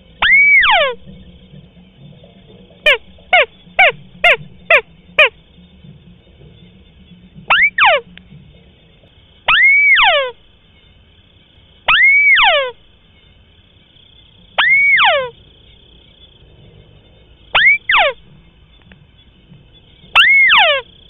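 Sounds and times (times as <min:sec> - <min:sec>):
crake calling: 0:00.0 - 0:16.3, 0:17.4 - 0:21.0.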